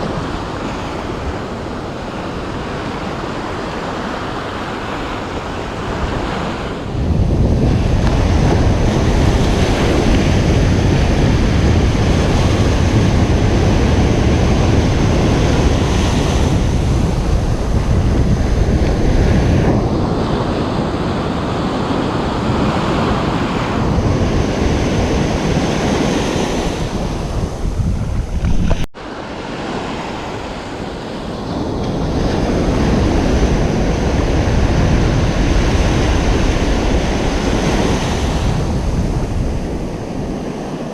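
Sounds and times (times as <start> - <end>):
ocean surf washing on beach: 0.0 - 40.9.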